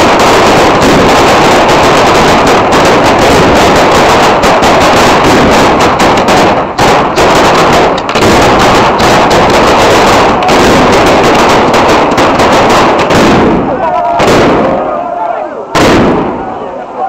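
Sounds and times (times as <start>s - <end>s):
firecrackers exploding: 0.0s - 15.0s, 15.7s - 16.7s.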